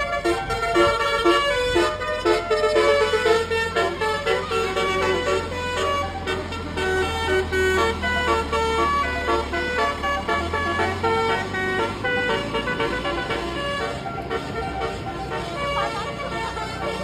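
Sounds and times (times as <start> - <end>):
engine humming: 0.0 - 17.0
multi-tone vehicle horn melody: 0.0 - 17.0.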